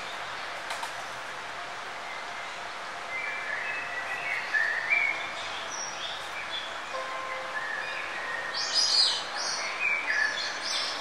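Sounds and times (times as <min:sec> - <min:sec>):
outdoor nature ambience hiss: 0:00.0 - 0:11.0.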